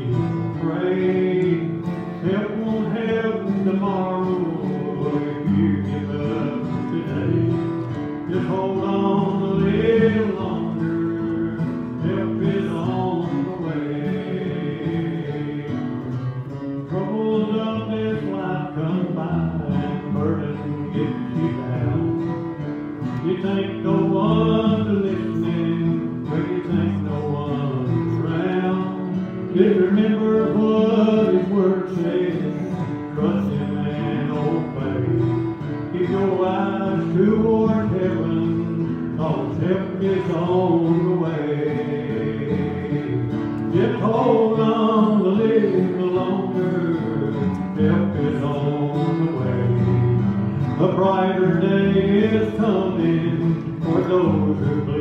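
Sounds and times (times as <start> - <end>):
acoustic guitar strumming: 0.0 - 55.0
person singing: 0.0 - 55.0
second guitar playing: 0.0 - 55.0.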